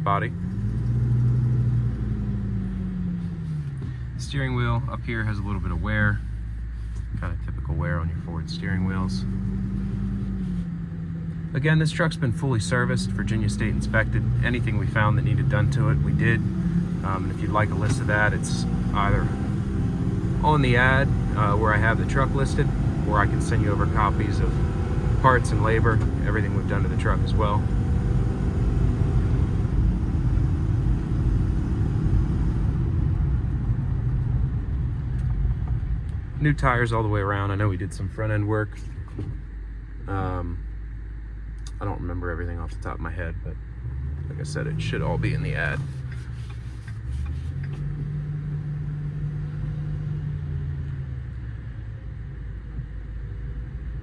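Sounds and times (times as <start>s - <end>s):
road noise: 0.0s - 54.0s
truck engine rumble: 0.0s - 54.0s.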